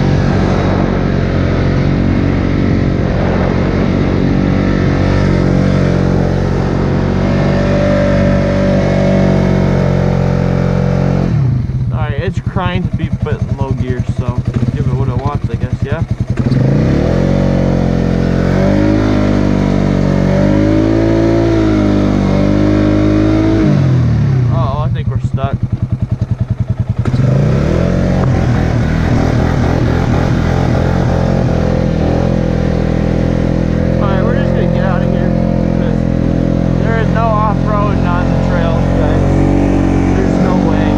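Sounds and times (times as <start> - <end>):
atv engine running steady: 0.0 - 40.9.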